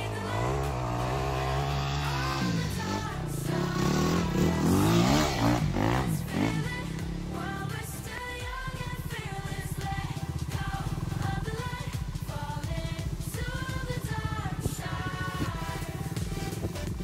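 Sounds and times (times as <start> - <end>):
background music: 0.0 - 17.0
dirt bike engine revving: 0.0 - 17.0.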